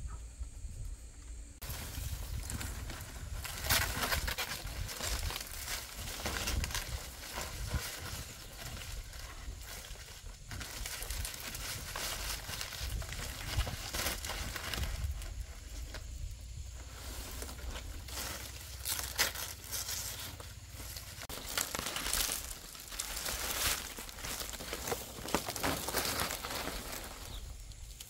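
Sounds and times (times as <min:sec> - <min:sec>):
palm leaves rustling and crinkling: 0:01.6 - 0:28.0.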